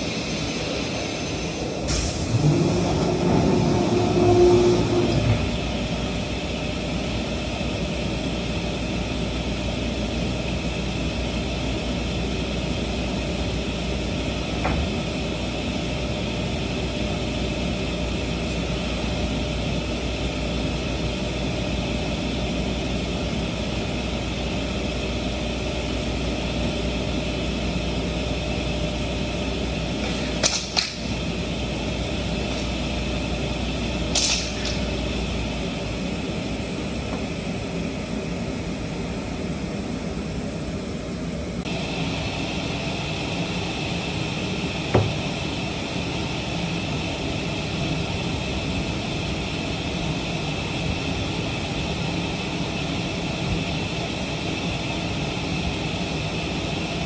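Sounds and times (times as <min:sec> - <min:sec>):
shop machinery droning: 0:00.0 - 0:57.0.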